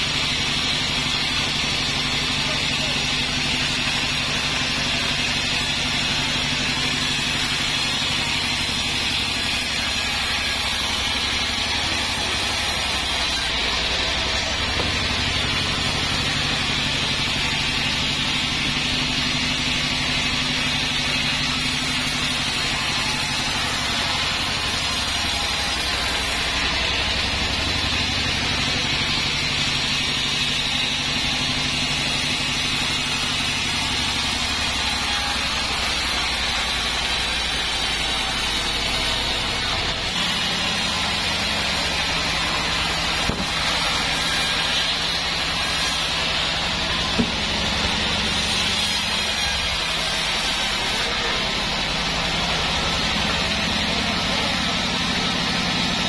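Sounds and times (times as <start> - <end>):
sawmill drive humming: 0.0 - 56.0.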